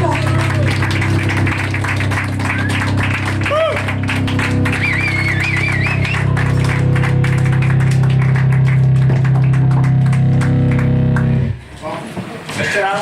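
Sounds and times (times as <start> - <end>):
wavering high tone: 0.0 - 11.5
distorted guitar chord: 0.0 - 11.7.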